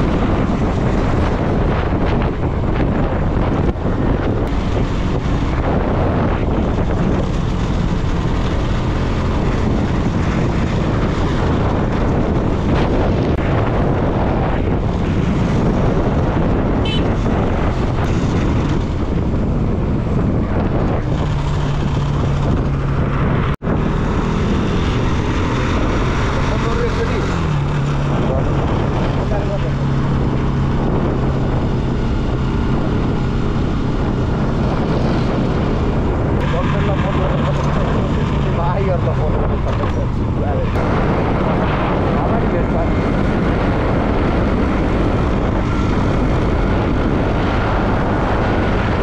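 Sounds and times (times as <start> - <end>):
motorcycle engine drone: 0.0 - 49.0
wind buffeting microphone: 0.0 - 49.0.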